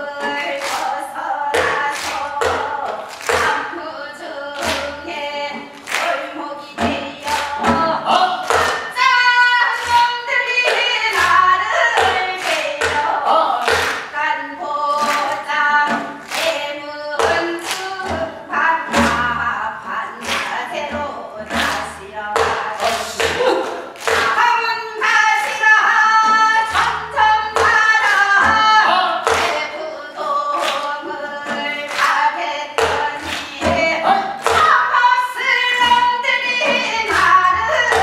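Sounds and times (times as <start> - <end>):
folk singers singing fast patter song: 0.0 - 38.0.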